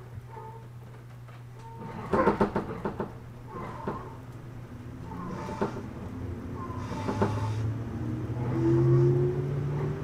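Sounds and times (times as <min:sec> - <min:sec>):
train carriage low hum: 0:00.0 - 0:10.0.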